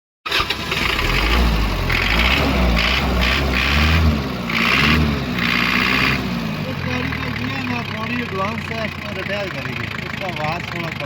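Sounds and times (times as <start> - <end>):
diesel engine idling: 0.3 - 11.0.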